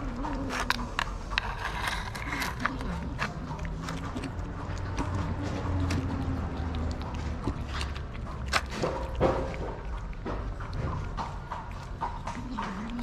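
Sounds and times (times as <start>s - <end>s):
cats chewing wet food: 0.0s - 13.0s.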